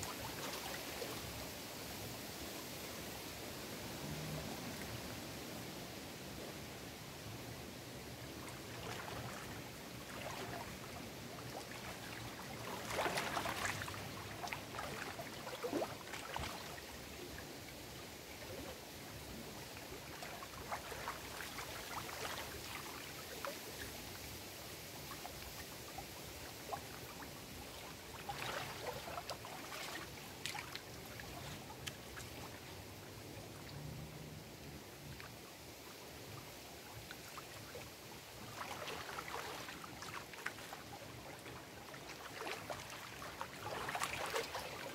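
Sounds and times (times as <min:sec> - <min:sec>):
waves lapping against rocks: 0:08.1 - 0:24.4, 0:25.0 - 0:44.9.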